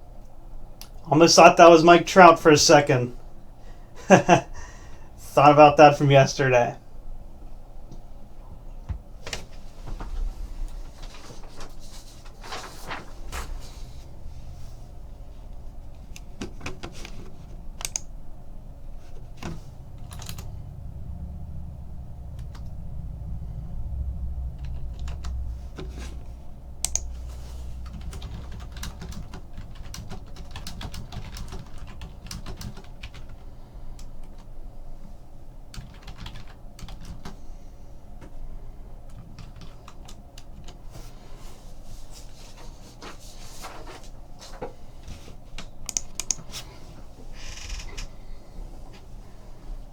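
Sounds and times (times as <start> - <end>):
low steady hum: 0.0 - 49.9.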